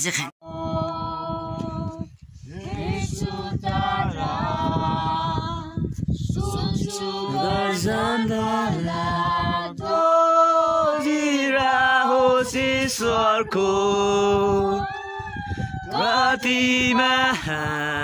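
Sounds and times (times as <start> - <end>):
group singing without instruments: 0.5 - 18.0.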